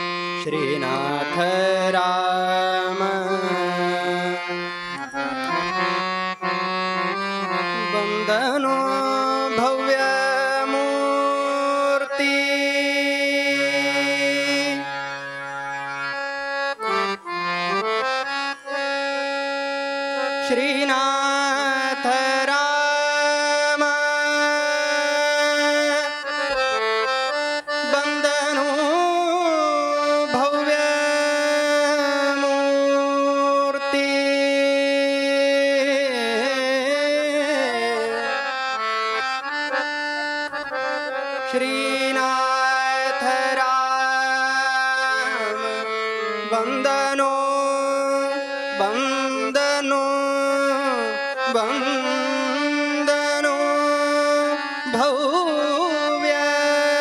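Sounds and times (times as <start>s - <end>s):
harmonium melody: 0.0s - 57.0s
man singing: 0.0s - 57.0s.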